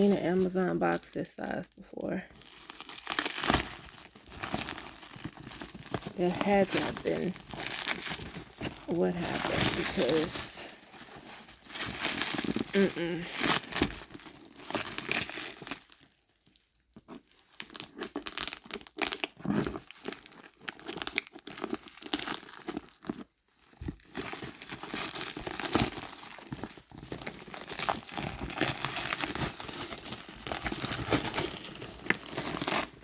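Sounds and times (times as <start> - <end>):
plastic wrap crinkling: 0.0 - 33.0
packing tape tearing: 2.6 - 15.9, 17.1 - 33.0.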